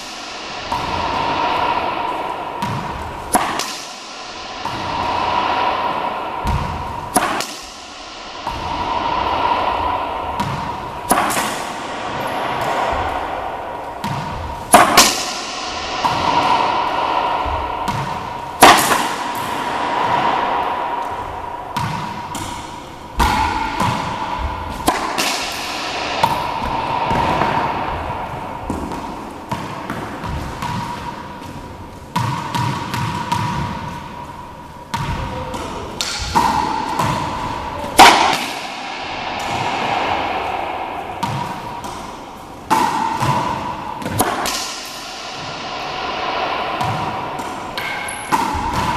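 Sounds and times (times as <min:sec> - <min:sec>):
racquet hitting ball: 0:00.0 - 0:48.9
steady hum: 0:00.0 - 0:48.9.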